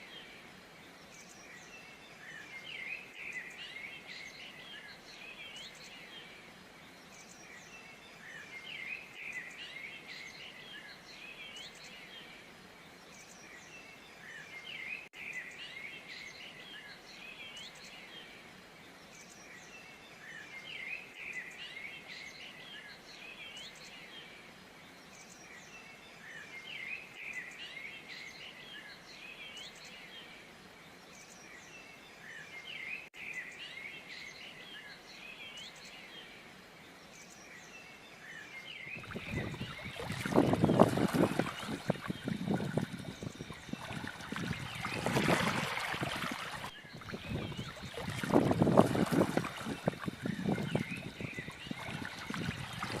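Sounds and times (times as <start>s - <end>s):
faint outdoor hiss: 0.0s - 53.0s
songbirds chirping and twittering: 0.0s - 53.0s.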